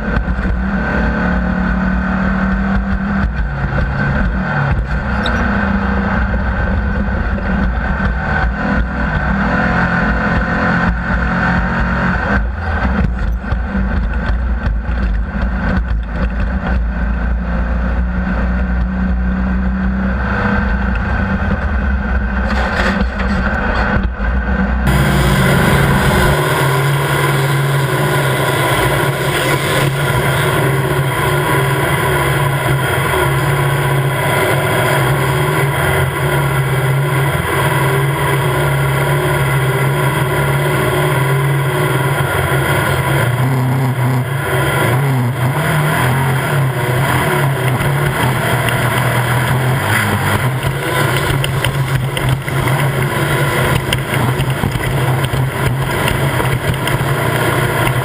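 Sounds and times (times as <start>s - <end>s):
race vehicle engine revving high: 0.0s - 58.0s
wind and terrain noise: 0.0s - 58.0s.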